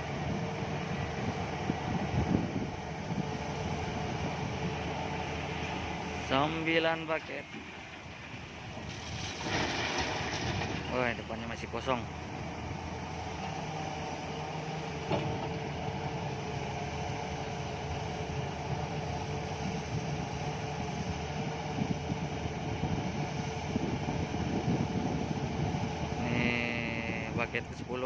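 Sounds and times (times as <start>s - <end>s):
heavy diesel engines running: 0.0s - 28.0s.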